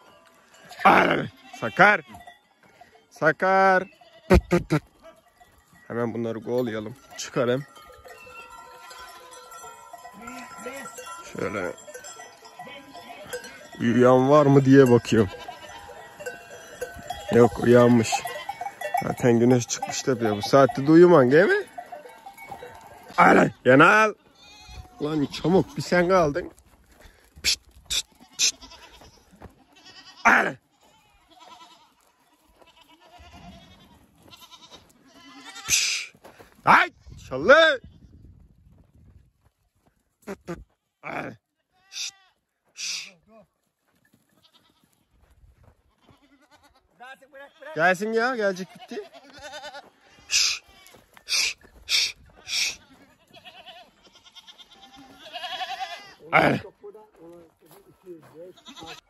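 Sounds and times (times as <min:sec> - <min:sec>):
goats bleating: 0:00.2 - 0:05.4, 0:06.5 - 0:38.0, 0:40.2 - 0:43.4, 0:44.3 - 0:59.0.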